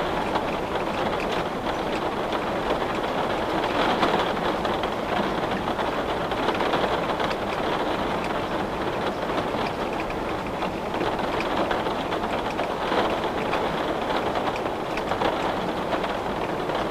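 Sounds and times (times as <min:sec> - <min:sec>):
rain pattering on window: 0:00.0 - 0:16.9.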